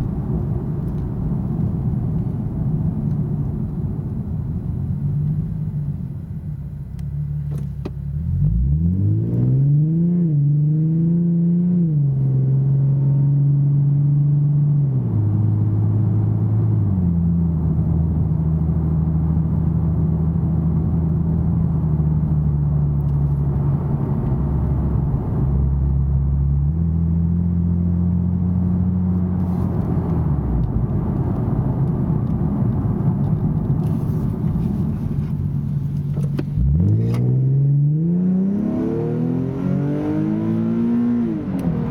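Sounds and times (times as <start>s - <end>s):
car engine heard from cabin: 0.0s - 41.9s.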